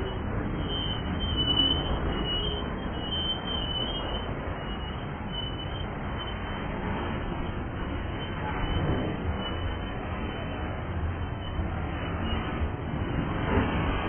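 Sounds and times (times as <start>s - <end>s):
freight cars rolling on rails: 0.0s - 14.0s.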